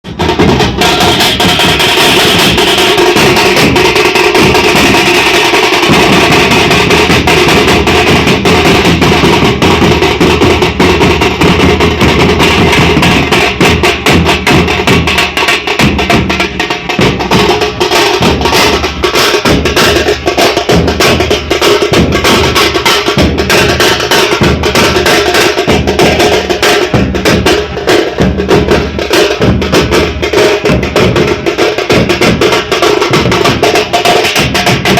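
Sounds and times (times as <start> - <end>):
drum band playing fast rhythm: 0.0 - 34.9.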